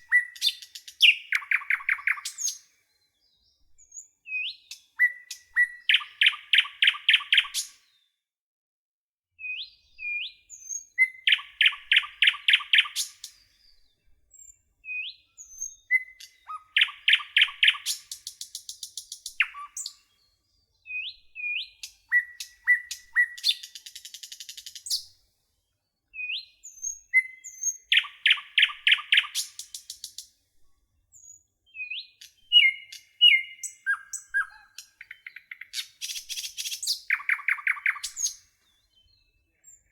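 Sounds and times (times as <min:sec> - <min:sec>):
nightingale singing: 0:00.0 - 0:07.8, 0:09.4 - 0:25.2, 0:26.1 - 0:30.3, 0:31.1 - 0:39.9.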